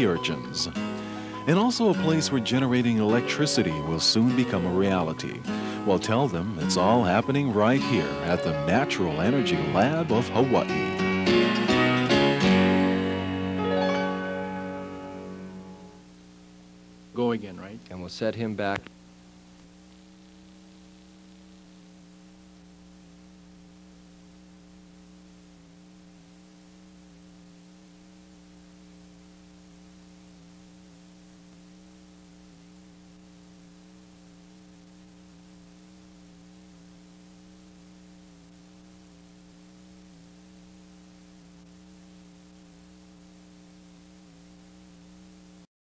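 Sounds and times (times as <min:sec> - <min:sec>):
electrical hum: 0:00.0 - 0:45.7
tape hiss: 0:00.0 - 0:45.7.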